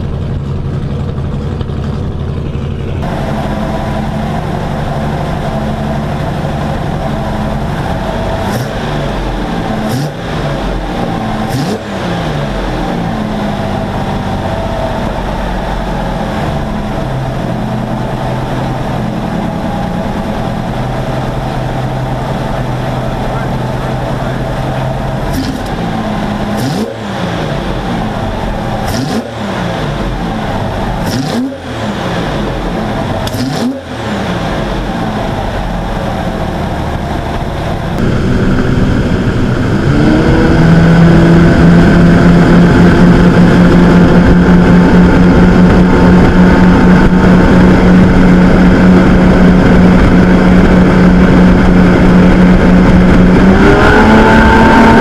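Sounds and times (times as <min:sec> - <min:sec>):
boat engines droning: 0:00.0 - 0:55.0
engine throttle blips: 0:00.0 - 0:55.0.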